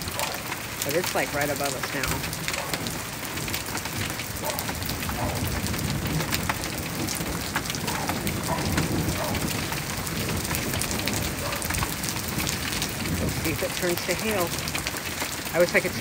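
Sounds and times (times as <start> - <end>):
rain falling: 0.0 - 16.0
thunder rumble: 0.0 - 16.0.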